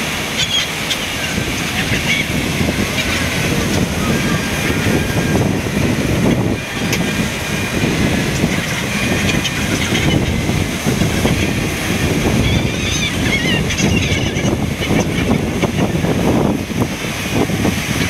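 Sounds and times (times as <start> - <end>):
breaking surf: 0.0 - 18.0
gulls calling: 0.0 - 18.0
wind on microphone: 0.0 - 18.0.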